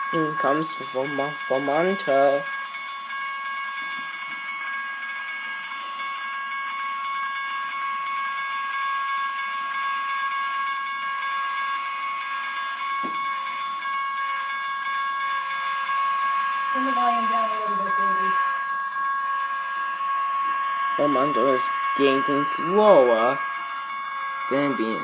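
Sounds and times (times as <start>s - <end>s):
high train whine: 0.0s - 25.0s.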